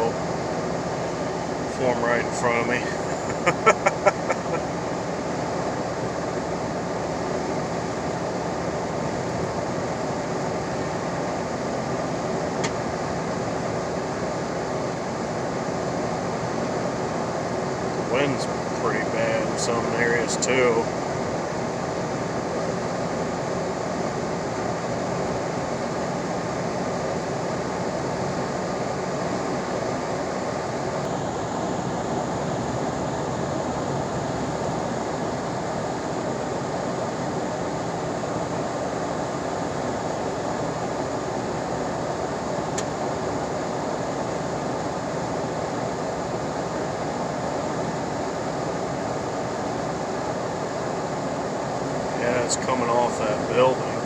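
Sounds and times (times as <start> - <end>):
car cabin drone: 0.0 - 54.0.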